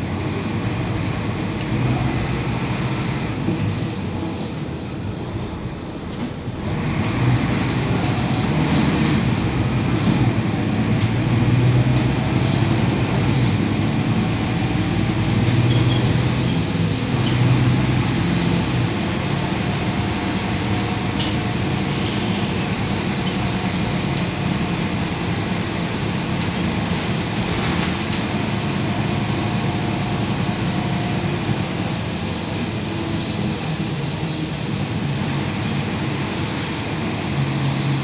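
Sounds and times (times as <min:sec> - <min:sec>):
bus engine running: 0:00.0 - 0:38.0
road noise: 0:00.0 - 0:38.0.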